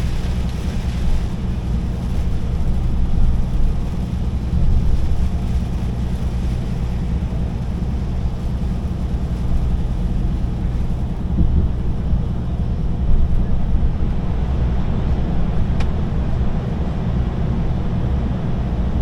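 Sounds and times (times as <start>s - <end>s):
road noise: 0.0s - 19.0s
truck engine drone: 0.0s - 19.0s
wind noise: 0.0s - 19.0s.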